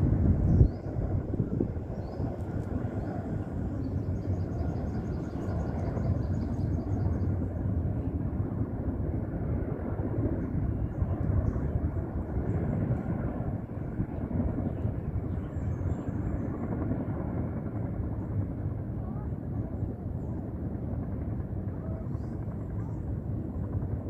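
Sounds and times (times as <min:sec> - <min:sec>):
helicopter rotor rumble: 0:00.0 - 0:24.0.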